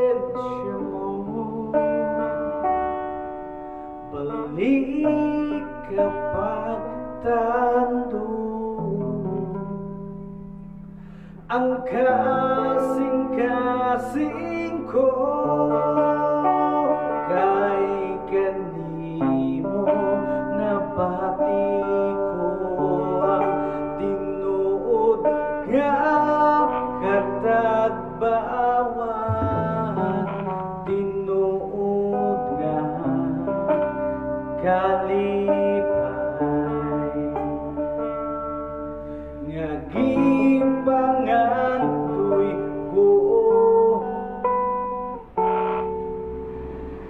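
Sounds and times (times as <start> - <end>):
man singing into a microphone: 0.0 - 3.4, 4.0 - 10.0, 11.4 - 38.8, 39.4 - 46.0
plucked electric guitar: 0.0 - 47.0.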